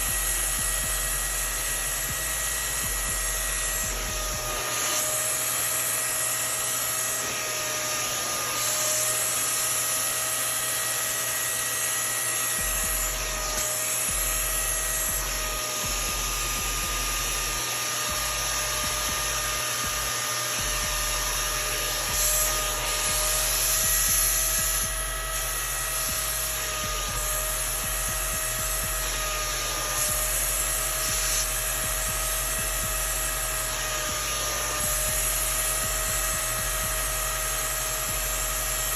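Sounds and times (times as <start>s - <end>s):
vacuum motor whining: 0.0s - 38.9s.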